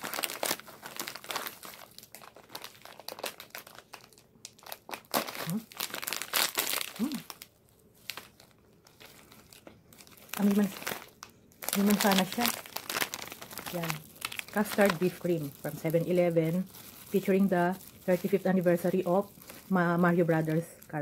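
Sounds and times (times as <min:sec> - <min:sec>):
plastic snack bag crinkling: 0:00.0 - 0:21.0.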